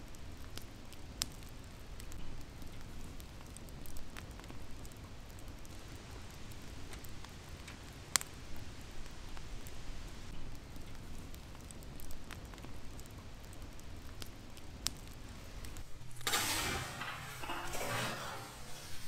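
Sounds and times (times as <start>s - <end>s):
fire popping: 0.0s - 19.0s
low fire rumble: 0.0s - 19.0s
wood fire crackling: 0.0s - 19.0s.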